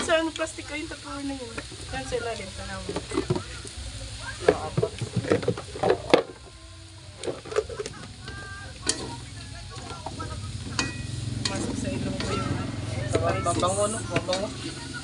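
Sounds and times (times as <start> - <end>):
faint sizzle: 0.0 - 15.0.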